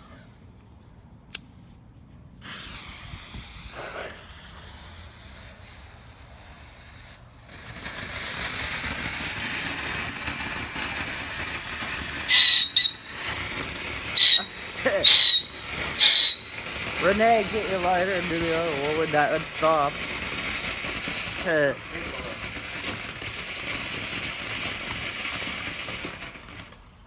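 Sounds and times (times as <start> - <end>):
firework shrill burst: 2.4 - 26.9
firework hissing and sputtering: 2.4 - 27.0.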